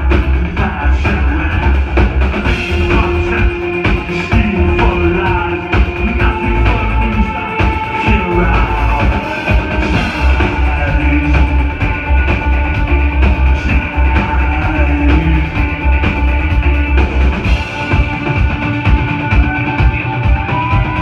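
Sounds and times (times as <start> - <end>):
electro-industrial band playing live: 0.0 - 21.0
loud kick-drum beat: 0.0 - 21.0.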